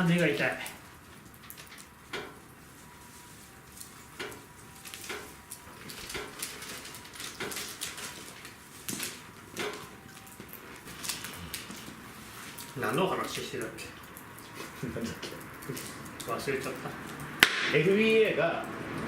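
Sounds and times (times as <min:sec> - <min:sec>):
campfire crackles and pops: 0:00.0 - 0:19.0
low fire hiss: 0:00.0 - 0:19.0.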